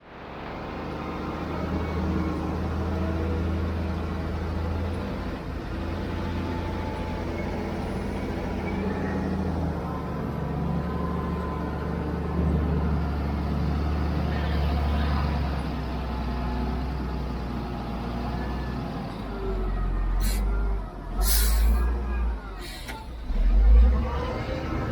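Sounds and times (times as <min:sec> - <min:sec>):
diesel engine of heavy machinery: 0:00.0 - 0:24.9.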